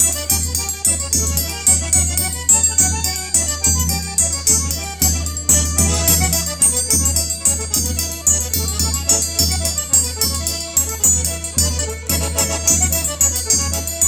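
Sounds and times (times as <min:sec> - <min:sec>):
accordion: 0:00.0 - 0:14.0
violin melody: 0:00.0 - 0:14.0
hand drum beat: 0:00.3 - 0:14.0.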